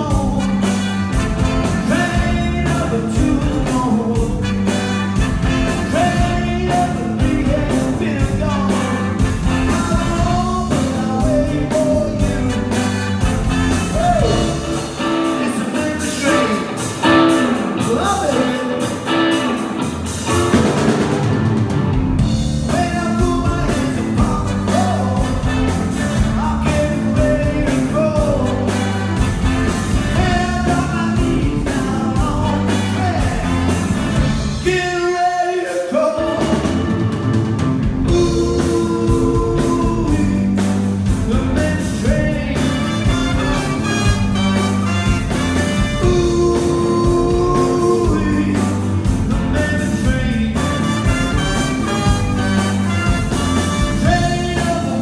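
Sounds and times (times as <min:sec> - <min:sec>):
person singing lead vocal: 0:00.0 - 0:00.8, 0:01.5 - 0:04.7, 0:05.6 - 0:13.1, 0:13.7 - 0:19.6, 0:22.7 - 0:29.2, 0:30.0 - 0:33.9, 0:34.5 - 0:37.2, 0:38.0 - 0:44.8, 0:45.6 - 0:55.0
baritone saxophone: 0:00.0 - 0:19.6, 0:22.7 - 0:34.7, 0:41.3 - 0:55.0
live rock and roll band: 0:00.0 - 0:55.0.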